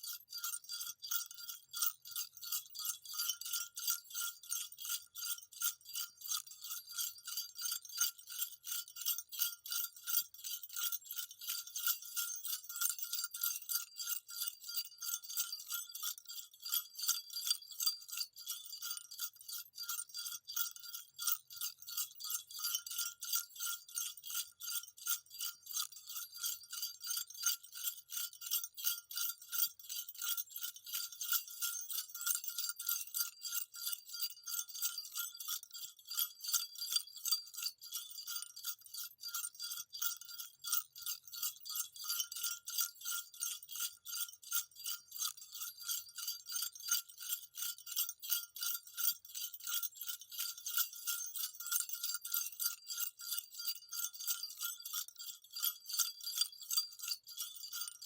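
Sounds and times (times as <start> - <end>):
jingle bells shaken: 0.0 - 58.0.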